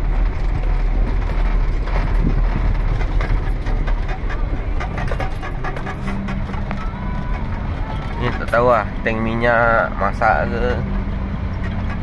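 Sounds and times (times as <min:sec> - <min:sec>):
cab clattering and rattling: 0:00.0 - 0:12.0
lorry engine rumbling: 0:00.0 - 0:12.0.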